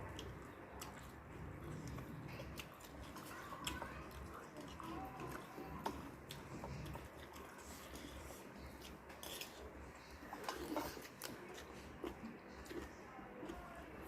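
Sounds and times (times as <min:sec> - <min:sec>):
chewing with crisp crunches: 0:00.0 - 0:14.0.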